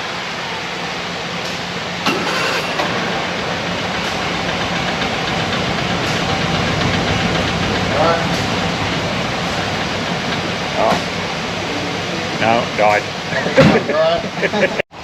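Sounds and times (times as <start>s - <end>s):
pump engine running: 0.0s - 13.8s.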